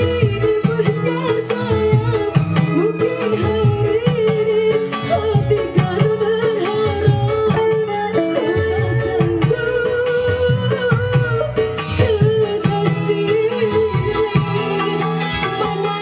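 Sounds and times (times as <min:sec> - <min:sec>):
plucked guitar melody: 0:00.0 - 0:16.0
steady drum rhythm: 0:00.0 - 0:16.0.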